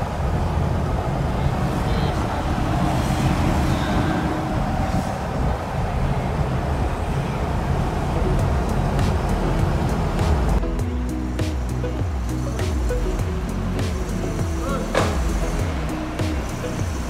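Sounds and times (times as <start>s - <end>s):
engine drone: 0.0s - 17.0s
road noise: 0.0s - 17.0s.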